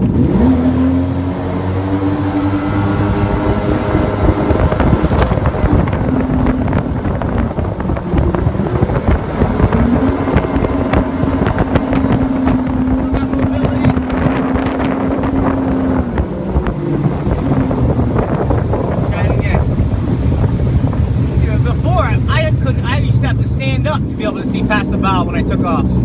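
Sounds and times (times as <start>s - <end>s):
jet boat engine revving: 0.0s - 26.0s
wind rushing over microphone: 0.0s - 26.0s.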